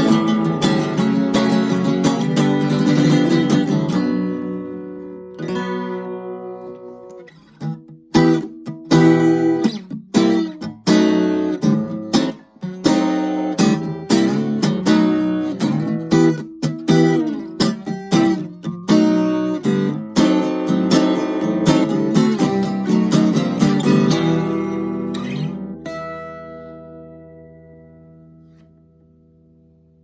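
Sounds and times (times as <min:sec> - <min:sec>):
acoustic guitar strumming chords: 0:00.0 - 0:29.8.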